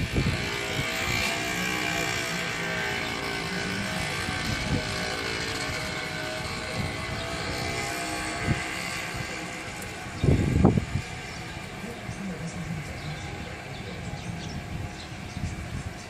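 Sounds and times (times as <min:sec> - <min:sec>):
jet aircraft engine drone: 0:00.0 - 0:16.0.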